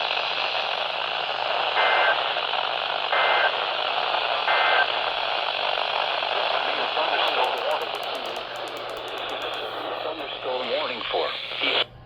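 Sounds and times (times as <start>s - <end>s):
weather radio hiss: 0.2s - 11.9s.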